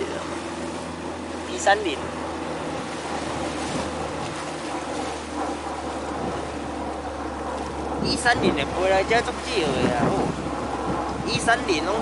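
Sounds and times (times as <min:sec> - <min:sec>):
low hum: 0:00.0 - 0:12.0
wind on microphone: 0:00.0 - 0:12.0.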